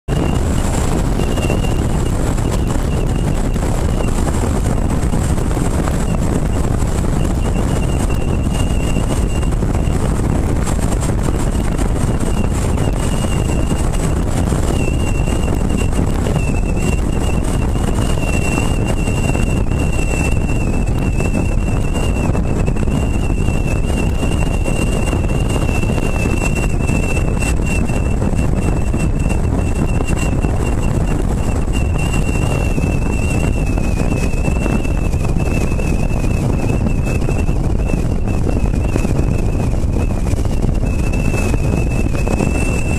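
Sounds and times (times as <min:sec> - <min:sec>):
car road noise: 0:00.0 - 0:42.9
wind rush: 0:00.0 - 0:42.9
thin wavering whistle: 0:01.2 - 0:04.2, 0:06.0 - 0:10.0, 0:11.5 - 0:13.8, 0:14.7 - 0:42.9.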